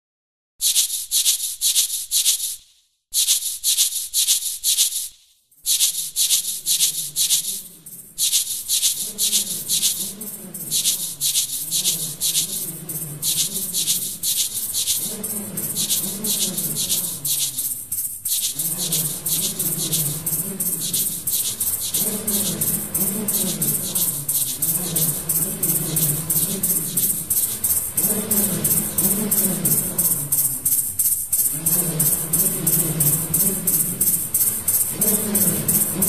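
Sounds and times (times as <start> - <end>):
shaker rattling fast rhythm: 0.6 - 36.0.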